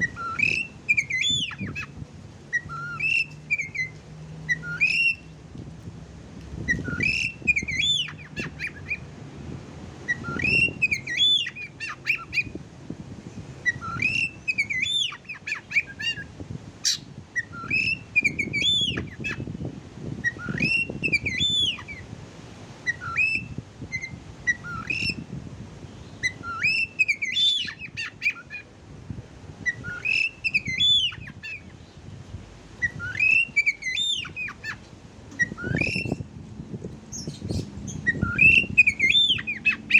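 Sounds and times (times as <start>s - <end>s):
bird whistled song: 0.0s - 5.4s, 6.6s - 9.0s, 10.0s - 12.6s, 13.6s - 19.5s, 20.1s - 22.1s, 22.8s - 25.3s, 26.0s - 28.7s, 29.6s - 32.0s, 32.8s - 36.3s, 37.1s - 39.9s.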